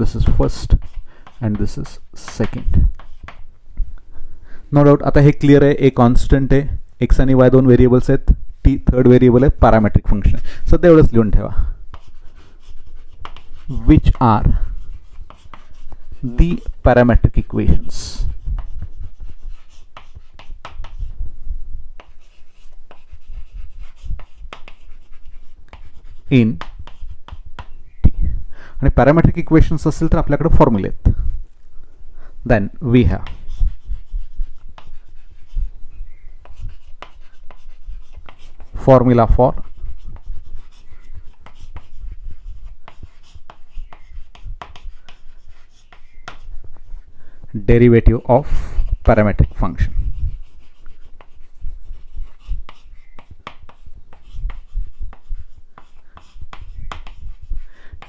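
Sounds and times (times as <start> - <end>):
chalk writing on chalkboard: 0.0 - 3.5, 8.7 - 21.2, 22.0 - 28.2, 32.9 - 58.0.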